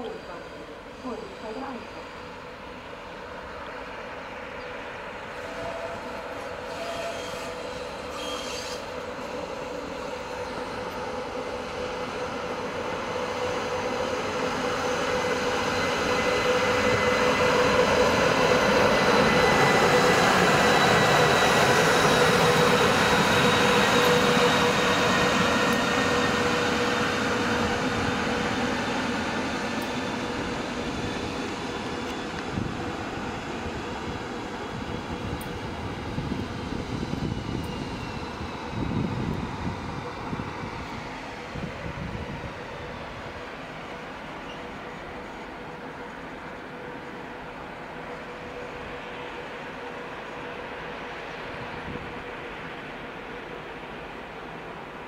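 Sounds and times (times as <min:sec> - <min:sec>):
locomotive whine: 0:00.0 - 0:55.0
train wheels rumbling on track: 0:00.0 - 0:55.0.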